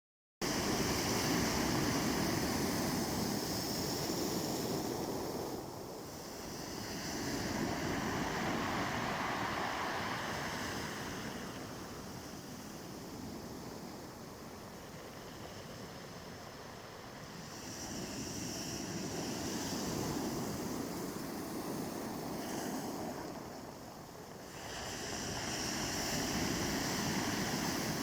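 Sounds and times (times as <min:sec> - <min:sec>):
sea waves breaking on shore: 0:00.4 - 0:28.0.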